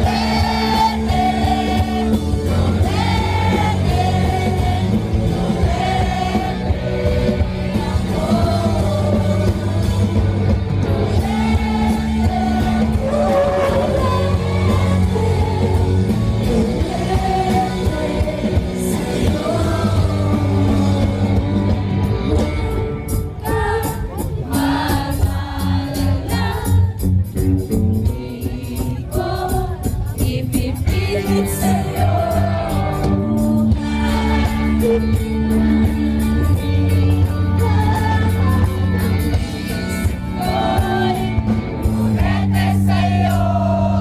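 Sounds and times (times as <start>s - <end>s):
live band music with singing: 0.0s - 44.0s.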